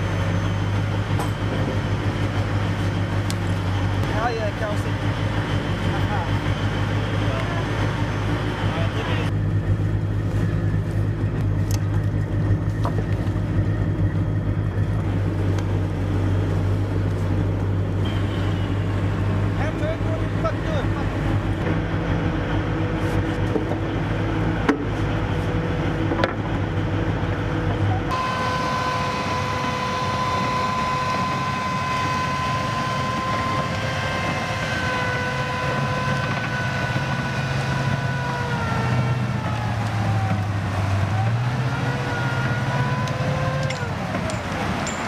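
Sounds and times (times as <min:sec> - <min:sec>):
low engine drone: 0:00.0 - 0:45.0
tracked vehicles whining on sand: 0:00.0 - 0:45.0.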